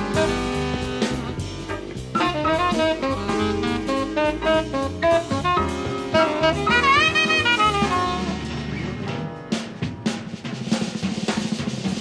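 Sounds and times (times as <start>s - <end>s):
jazz saxophone: 0.0s - 9.7s
drum kit playing: 0.0s - 12.0s.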